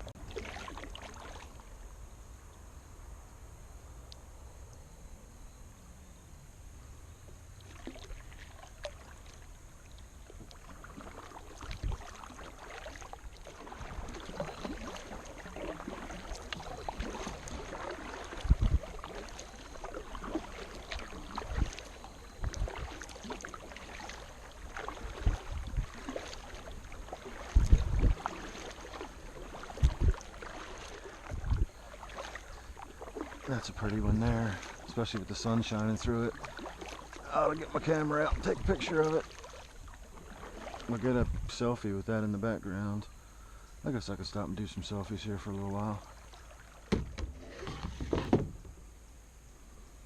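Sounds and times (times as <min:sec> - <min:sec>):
paddle splashing in water: 0:00.0 - 0:01.8, 0:07.5 - 0:41.6, 0:44.2 - 0:48.8.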